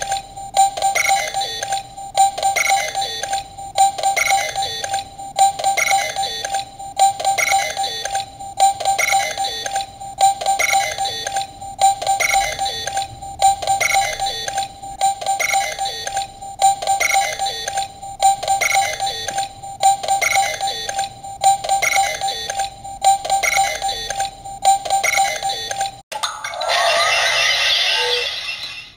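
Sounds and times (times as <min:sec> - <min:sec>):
toy electronic beeping: 0:00.0 - 0:28.9.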